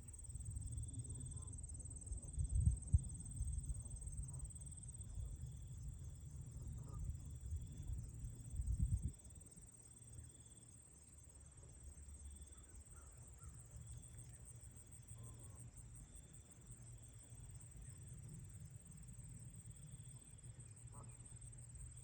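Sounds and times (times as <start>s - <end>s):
cricket trill: 0.0s - 22.0s.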